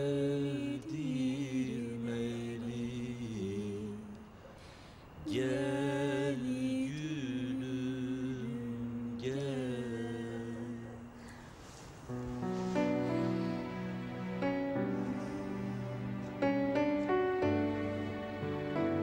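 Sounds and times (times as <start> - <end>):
person singing slow song: 0.0 - 19.0.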